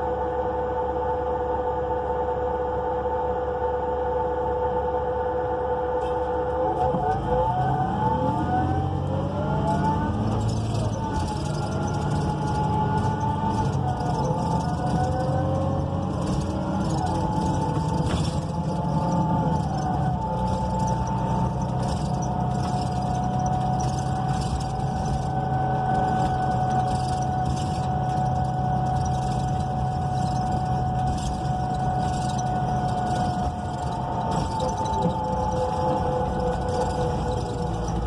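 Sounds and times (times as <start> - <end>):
bus engine rumble: 0.0 - 38.0
drivetrain whine: 0.0 - 38.0
road noise: 5.8 - 38.0.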